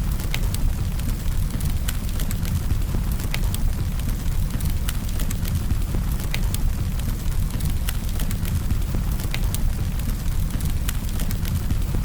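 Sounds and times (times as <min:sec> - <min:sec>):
low rumble of flames: 0:00.0 - 0:12.0
burning wood crackling and popping: 0:00.1 - 0:12.0.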